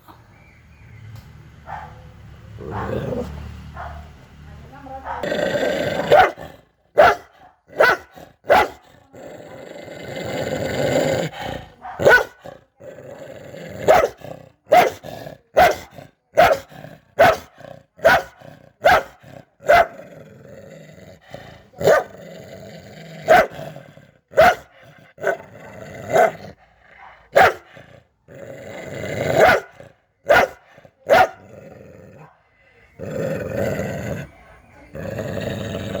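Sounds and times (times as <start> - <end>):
dog barking aggressively: 1.6 - 2.0, 2.6 - 4.1, 5.0 - 32.4
dog growling: 2.6 - 3.6, 5.1 - 36.0.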